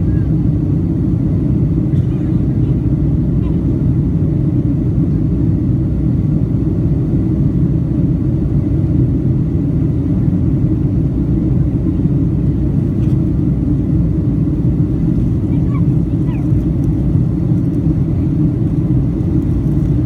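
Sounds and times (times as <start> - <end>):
airliner engines rumbling: 0.0 - 20.0.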